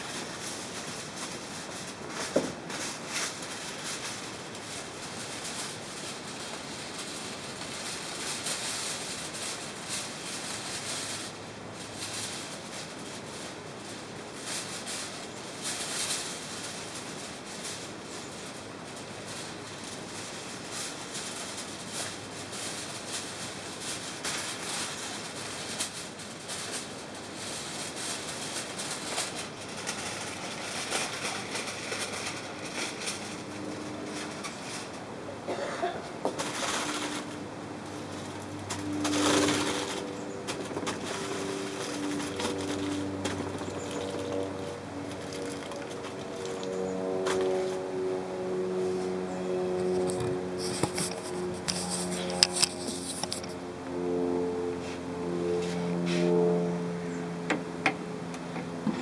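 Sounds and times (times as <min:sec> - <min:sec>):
grill hissing and crackling: 0:00.0 - 0:59.0.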